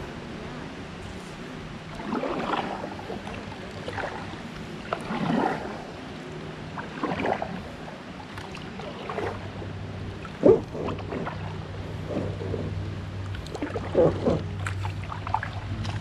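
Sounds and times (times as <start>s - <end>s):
kayak paddle splashing in water: 1.9s - 6.1s, 6.7s - 16.0s.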